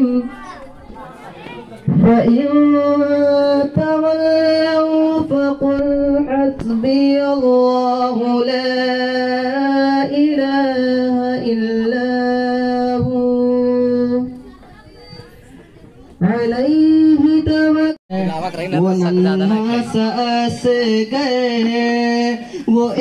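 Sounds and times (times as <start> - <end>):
man singing into a microphone: 0.0 - 0.4, 1.9 - 14.3, 16.2 - 23.0.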